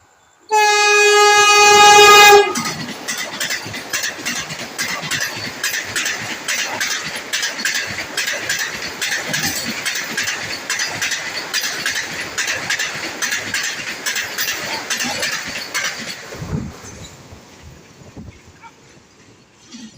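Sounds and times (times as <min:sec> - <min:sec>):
train wheels clattering over rails: 0:00.6 - 0:19.9.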